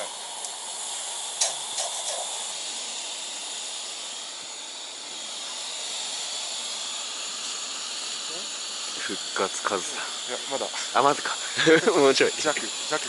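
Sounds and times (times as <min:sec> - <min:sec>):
camp stove hissing: 0:00.0 - 0:13.0.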